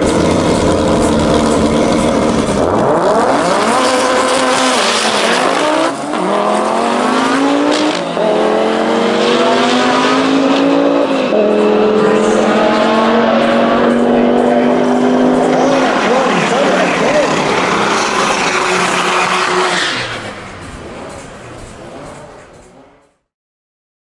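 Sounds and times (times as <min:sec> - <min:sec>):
car engine at full throttle: 0:00.0 - 0:23.3.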